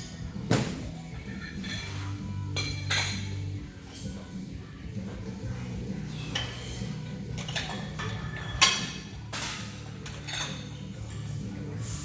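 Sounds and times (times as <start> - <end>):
low background music: 0.0 - 12.0.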